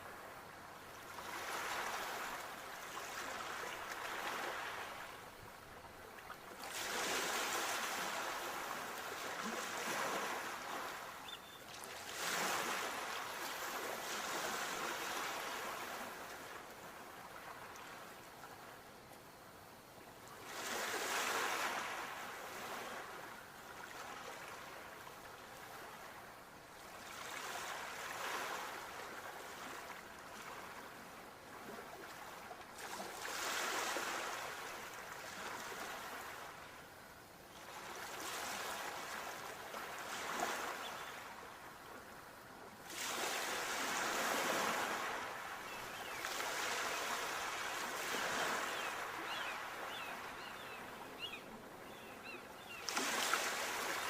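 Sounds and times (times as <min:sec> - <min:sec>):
sea waves breaking on shore: 0:00.9 - 0:05.5, 0:06.1 - 0:18.1, 0:20.4 - 0:36.9, 0:37.6 - 0:42.1, 0:42.8 - 0:54.0.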